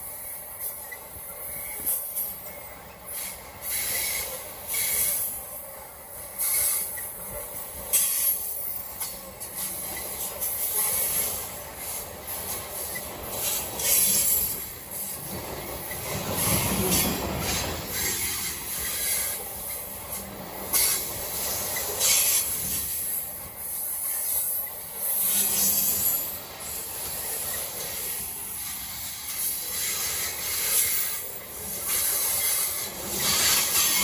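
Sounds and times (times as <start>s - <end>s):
train clatter: 0.0s - 34.0s
train wheels hissing and squealing: 0.0s - 34.0s.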